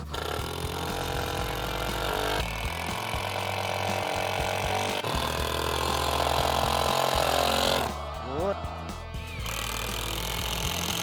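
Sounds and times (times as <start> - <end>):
power drill drilling into wood: 0.0 - 7.9, 9.4 - 11.0.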